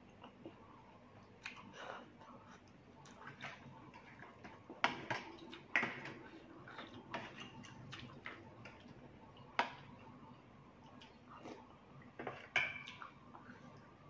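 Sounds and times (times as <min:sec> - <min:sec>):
chewing: 0:00.0 - 0:10.1, 0:10.9 - 0:13.9.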